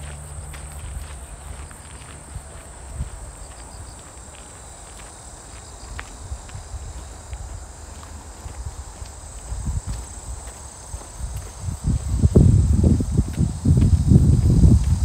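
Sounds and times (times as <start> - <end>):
crickets chirping: 0.0 - 15.0
soft footsteps: 0.0 - 15.0.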